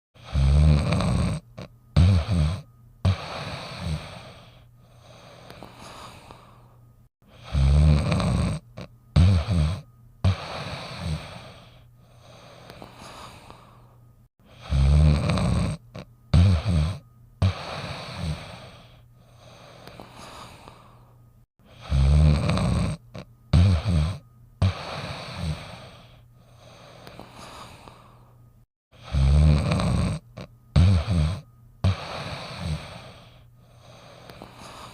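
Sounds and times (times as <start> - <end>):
dog snoring: 0.2 - 6.7, 7.3 - 13.8, 14.4 - 21.0, 21.6 - 28.3, 28.9 - 34.9.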